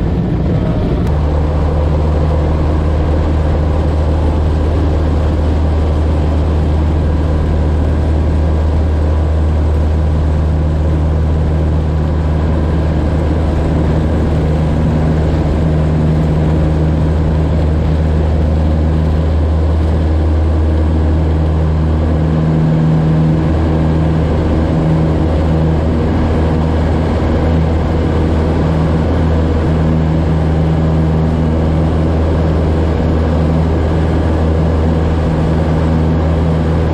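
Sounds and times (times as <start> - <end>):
airplane engine and propeller: 0.0 - 36.9
wind rushing over microphone: 0.0 - 36.9.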